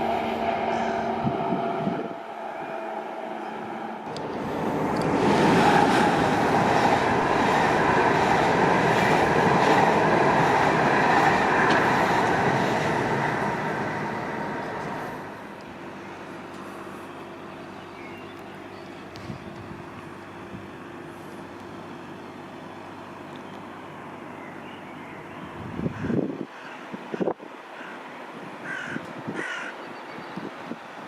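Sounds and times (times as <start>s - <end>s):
train passing: 0.0s - 29.2s.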